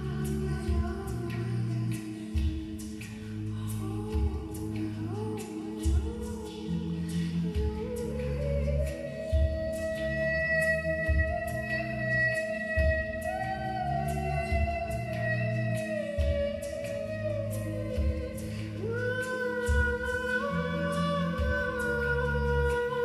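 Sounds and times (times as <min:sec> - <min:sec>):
slow meditative music: 0:00.0 - 0:23.0.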